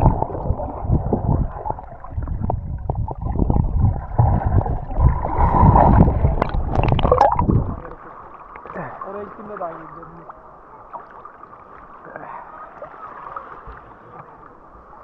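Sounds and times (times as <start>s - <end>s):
muffled sea water sloshing: 0.0s - 15.0s.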